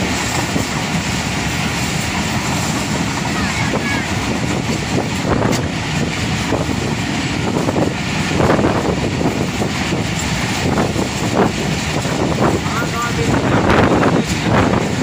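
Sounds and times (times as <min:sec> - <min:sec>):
train wheels rumbling on rails: 0:00.0 - 0:15.0
wind buffeting microphone: 0:00.0 - 0:15.0.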